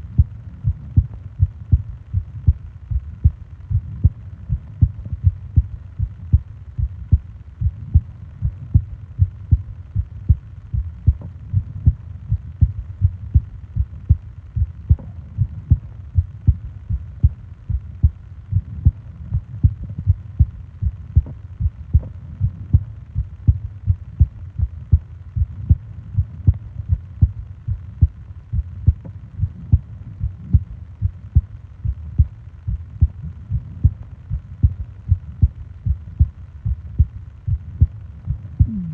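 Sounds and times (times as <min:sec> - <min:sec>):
heartbeat thumps: 0:00.0 - 0:38.9.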